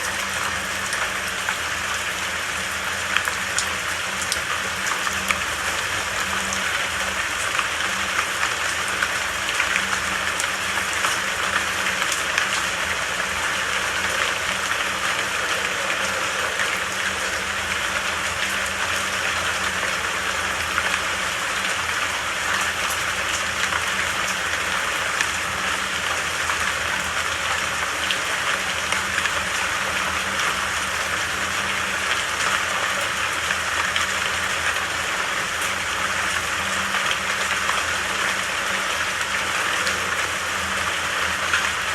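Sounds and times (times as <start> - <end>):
steady rain hiss: 0.0 - 41.9.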